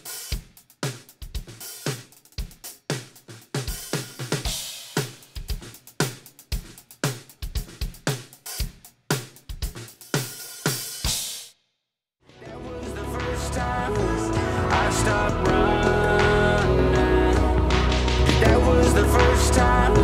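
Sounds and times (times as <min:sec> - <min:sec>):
drum kit beat: 0:00.0 - 0:11.5, 0:12.6 - 0:20.0.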